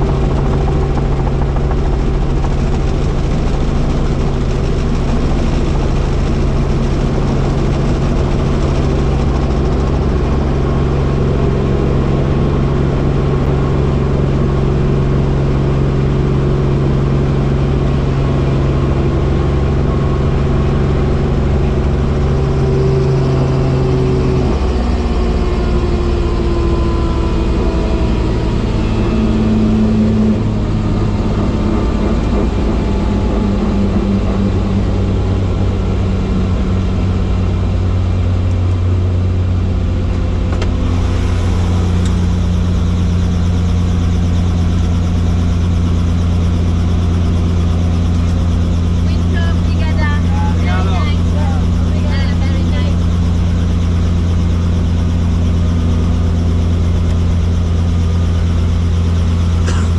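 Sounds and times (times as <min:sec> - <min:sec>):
helicopter drone: 0:00.0 - 0:59.9.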